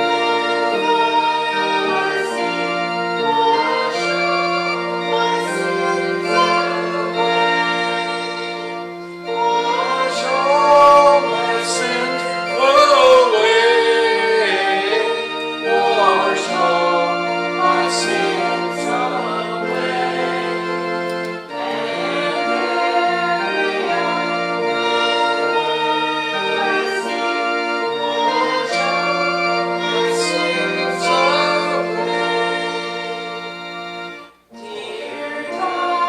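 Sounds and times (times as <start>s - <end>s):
congregation singing a hymn: 0.0s - 36.0s
organ chords: 0.0s - 36.0s.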